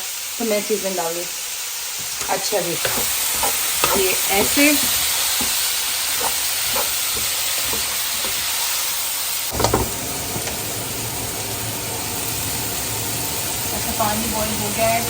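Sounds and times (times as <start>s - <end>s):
food sizzling in frying pan: 0.0s - 15.0s
kettle boiling hiss: 0.0s - 15.0s.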